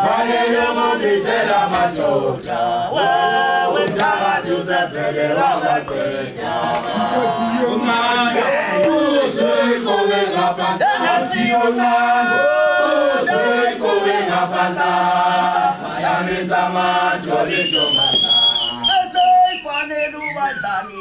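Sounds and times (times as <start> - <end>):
choir chanting in harmony: 0.0 - 18.8.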